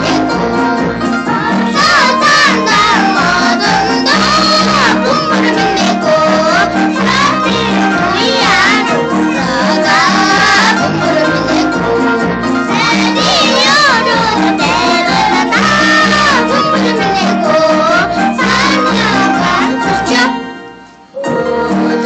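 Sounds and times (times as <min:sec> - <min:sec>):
instrumental accompaniment with beat: 0:00.0 - 0:22.0.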